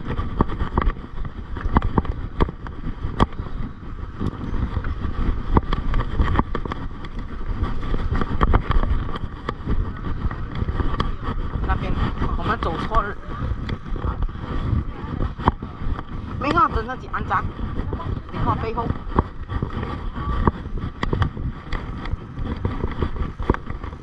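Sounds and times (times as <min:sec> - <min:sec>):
bike rattling and clicking: 0:00.0 - 0:24.0
wind and tyres rumbling: 0:00.0 - 0:24.0.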